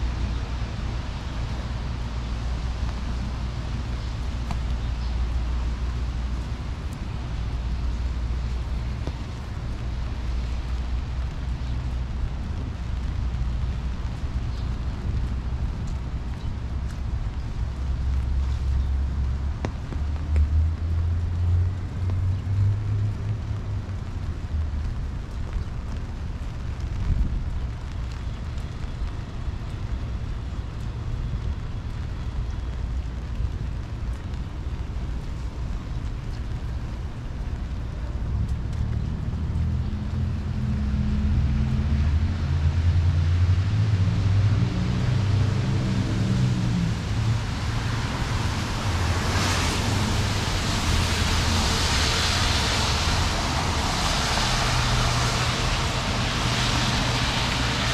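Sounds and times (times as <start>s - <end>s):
even hiss of wet road: 0.0s - 57.9s
low rumble of road traffic: 0.0s - 57.9s
steady rain falling: 0.0s - 57.9s.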